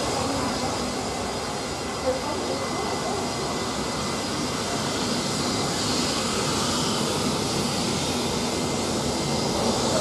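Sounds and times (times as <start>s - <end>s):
jet engines at taxi power: 0.0s - 10.0s.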